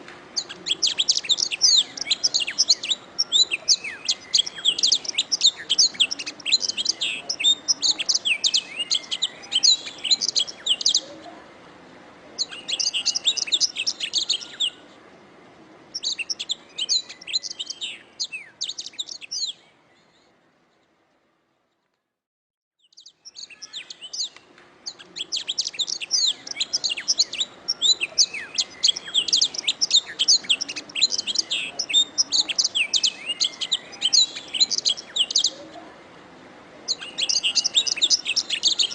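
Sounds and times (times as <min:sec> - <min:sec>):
canary singing trills: 0:00.4 - 0:11.2, 0:12.4 - 0:14.8, 0:15.9 - 0:20.2, 0:22.8 - 0:35.8, 0:36.9 - 0:38.9.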